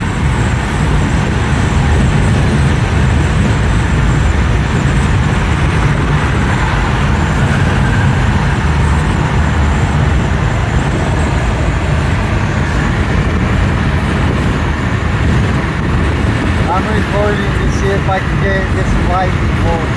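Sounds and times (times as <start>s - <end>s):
rain: 0.0s - 17.6s
deep rumble: 0.0s - 19.9s
wind rushing on microphone: 0.0s - 19.9s.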